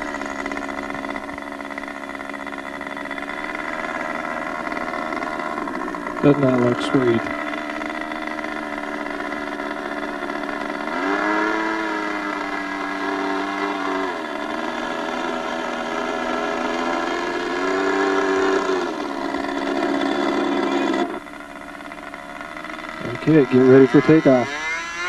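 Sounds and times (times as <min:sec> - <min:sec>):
model jet glow engine running: 0:00.0 - 0:25.0.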